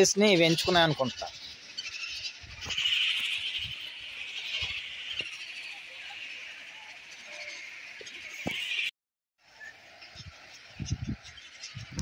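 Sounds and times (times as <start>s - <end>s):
high-pitched din of nesting storks: 0.0s - 8.9s, 9.5s - 12.0s.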